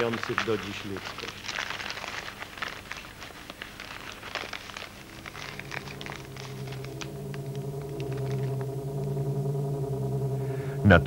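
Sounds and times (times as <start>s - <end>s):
low droning hum: 0.0s - 11.0s.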